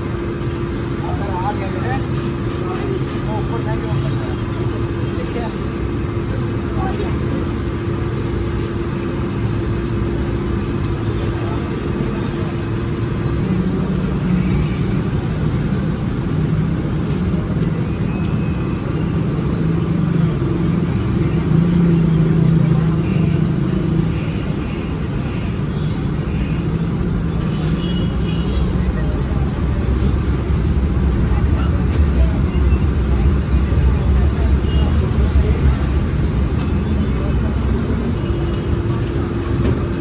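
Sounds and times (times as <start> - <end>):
street traffic hum: 0.0 - 40.0.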